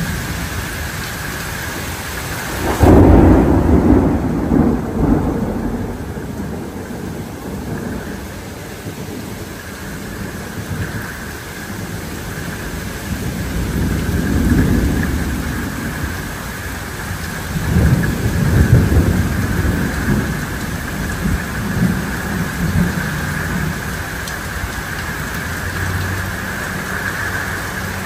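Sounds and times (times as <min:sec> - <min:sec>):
rumble of thunder: 0:00.0 - 0:26.4
rain hissing on ground: 0:00.0 - 0:28.0.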